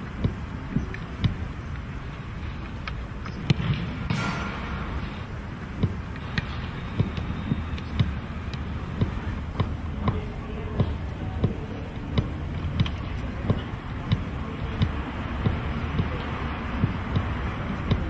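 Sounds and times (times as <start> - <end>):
steady background rush: 0.0 - 18.0.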